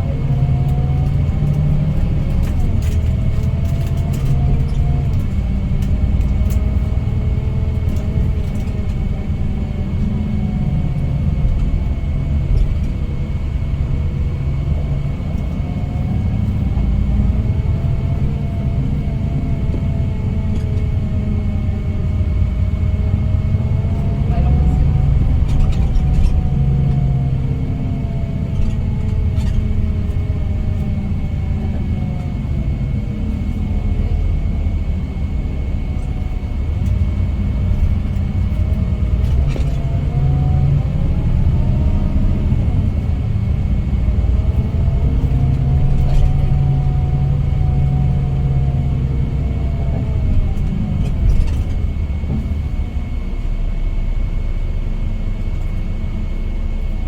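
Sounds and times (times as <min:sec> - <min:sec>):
diesel coach engine running: 0:00.0 - 0:57.0.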